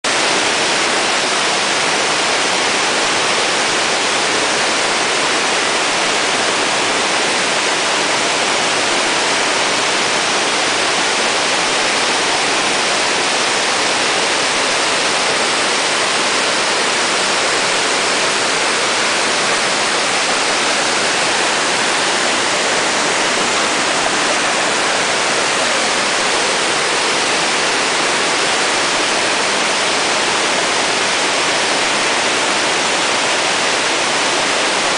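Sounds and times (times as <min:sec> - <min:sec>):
creek water rushing: 0:00.1 - 0:34.9.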